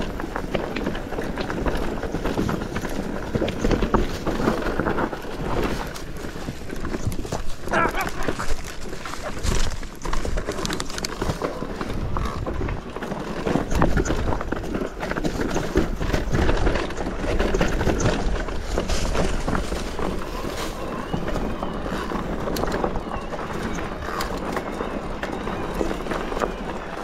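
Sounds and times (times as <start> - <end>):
bike clattering over stones: 0.0 - 27.0
tyres crunching on stones: 0.0 - 27.0.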